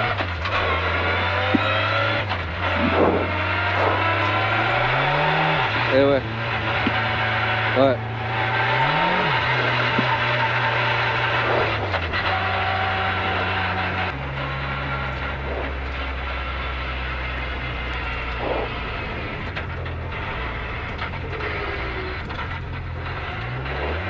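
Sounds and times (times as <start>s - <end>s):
car engine running inside cabin: 0.0s - 24.0s.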